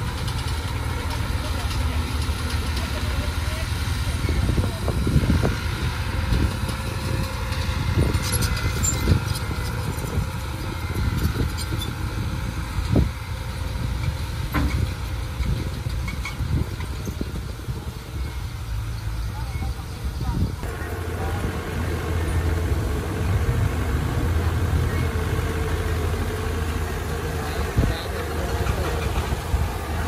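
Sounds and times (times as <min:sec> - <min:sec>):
heavy diesel machinery rumbling: 0:00.0 - 0:30.0.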